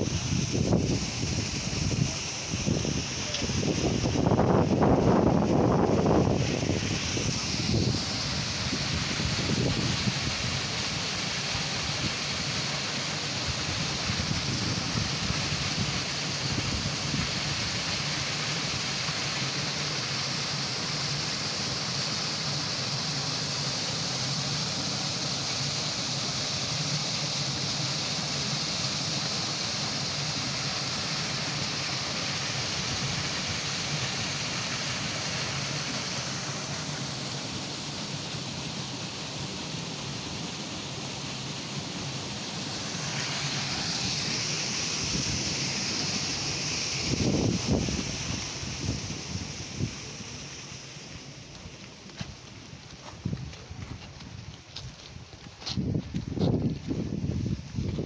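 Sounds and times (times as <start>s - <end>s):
water splashing in garden waterfall: 0.0s - 58.0s.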